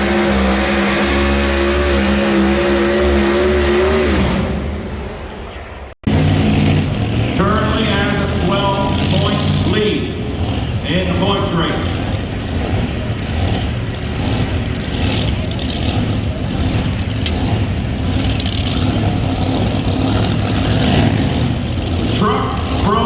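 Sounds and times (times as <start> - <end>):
loud unmuffled engine running: 0.0 - 23.0.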